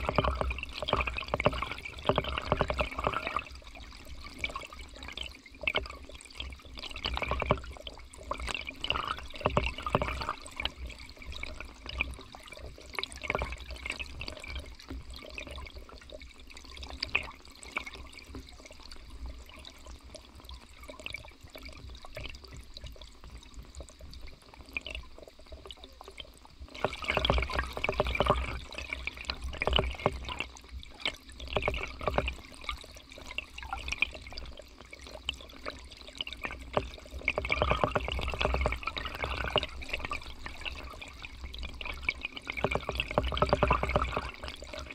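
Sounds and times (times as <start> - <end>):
low water rumble: 0.0 - 44.9
underwater river gurgling: 0.0 - 44.9.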